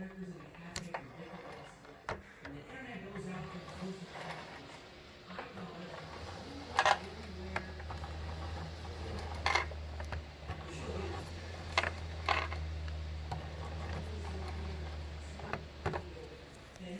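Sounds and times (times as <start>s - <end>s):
rowing machine clacking: 0.0s - 16.9s
rowing machine hum: 0.0s - 16.9s.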